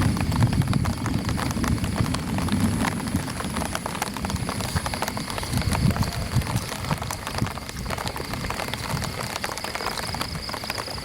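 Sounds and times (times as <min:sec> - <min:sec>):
footsteps: 0:00.0 - 0:11.0
rain pattering on an umbrella: 0:00.0 - 0:11.0.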